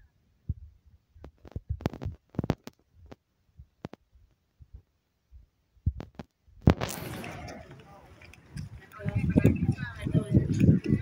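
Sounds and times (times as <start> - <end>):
camera microphone thumps and clicks: 0.5 - 4.9, 5.8 - 11.0.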